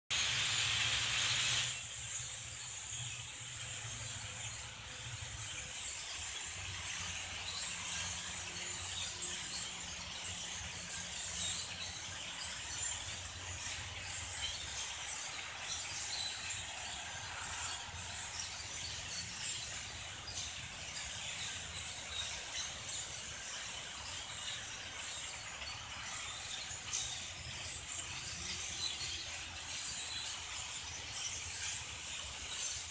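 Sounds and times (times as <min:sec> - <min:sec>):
flock of blackbirds chattering: 0:00.3 - 0:32.9.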